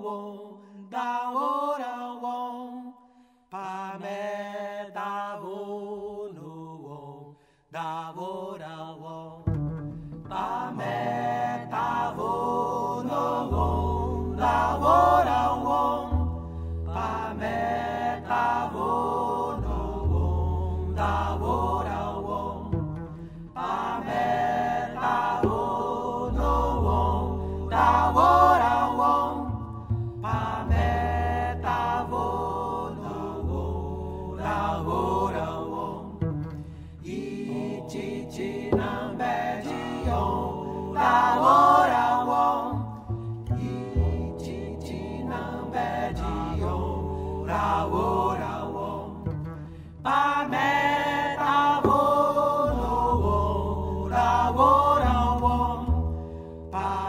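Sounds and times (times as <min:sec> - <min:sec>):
voices singing a chant: 0:00.0 - 0:03.0, 0:03.6 - 0:09.4, 0:10.3 - 0:49.4, 0:50.0 - 0:57.0
low bass notes: 0:09.5 - 0:57.0.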